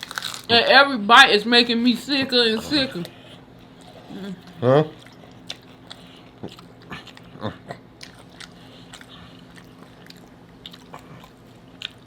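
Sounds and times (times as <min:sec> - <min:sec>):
chewing and crunching tacos: 0:00.0 - 0:00.7, 0:02.6 - 0:12.0
steady low hum: 0:00.0 - 0:12.0.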